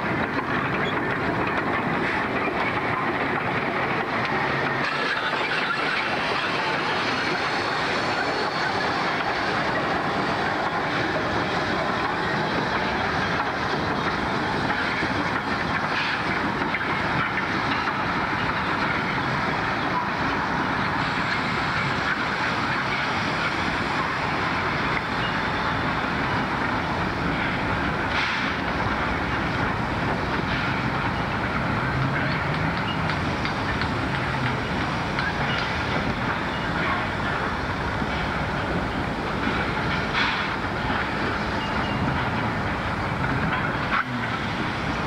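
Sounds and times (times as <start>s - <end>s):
steam locomotive hauling train: 0.0s - 45.0s
wagons rolling along track: 0.0s - 45.0s.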